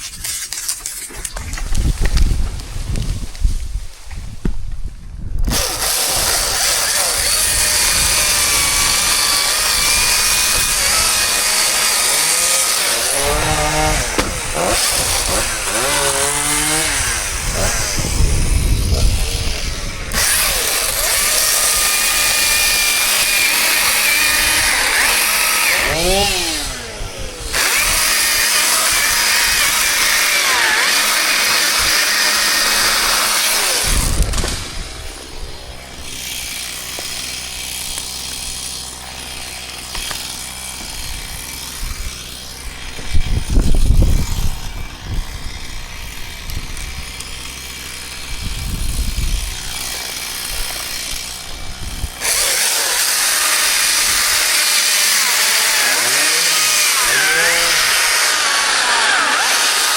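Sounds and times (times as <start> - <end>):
chainsaw cutting: 5.4 - 59.9.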